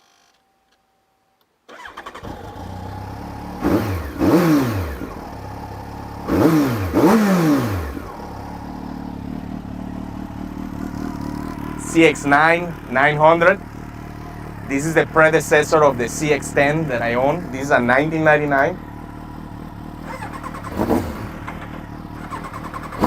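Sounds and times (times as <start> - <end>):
motorcycle engine idling and revving: 1.7 - 23.0.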